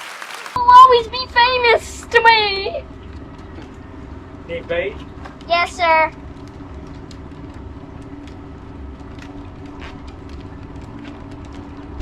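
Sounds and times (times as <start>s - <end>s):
low mechanical hum: 0.6s - 12.0s.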